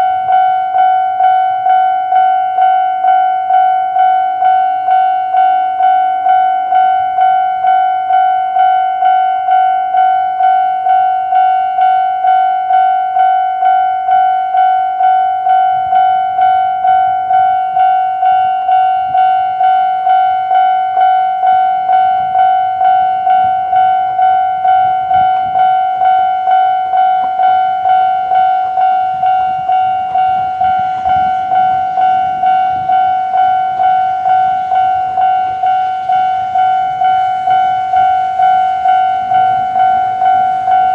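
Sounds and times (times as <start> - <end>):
electric train rumble: 0.0 - 40.9
level-crossing warning bell: 0.0 - 40.9.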